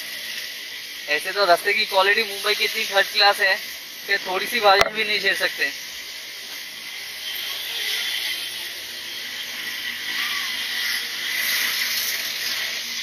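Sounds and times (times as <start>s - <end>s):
faint high engine whine: 0.0s - 13.0s
tyres hissing on wet road: 0.0s - 13.0s.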